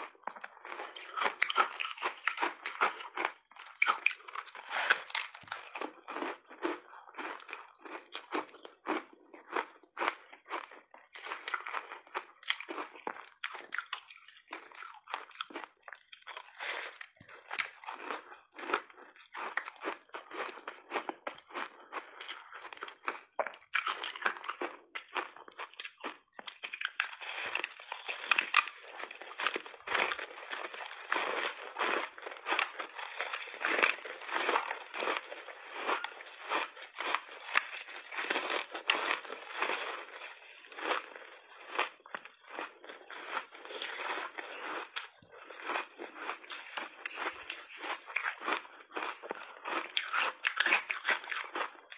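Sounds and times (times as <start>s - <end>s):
ice crunching being chewed: 0.0s - 51.9s.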